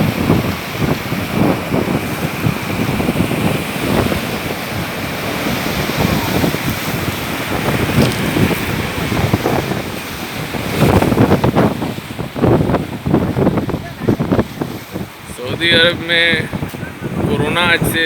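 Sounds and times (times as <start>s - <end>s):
sea surf: 0.0s - 18.0s
wind buffeting microphone: 0.0s - 18.0s.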